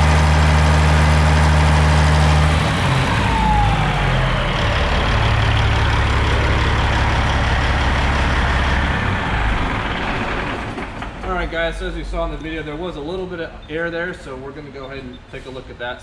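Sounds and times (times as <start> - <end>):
diesel engine idling: 0.0 - 13.3.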